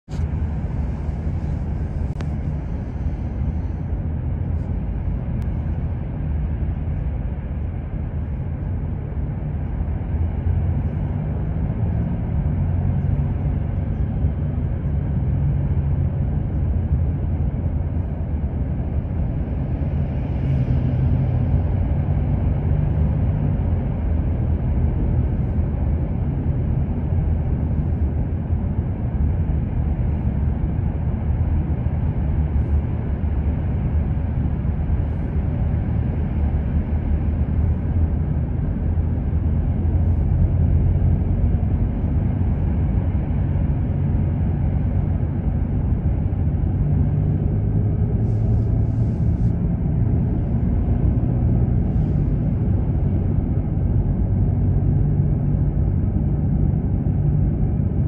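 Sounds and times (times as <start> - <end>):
road and tyre noise in car: 0.0 - 58.0.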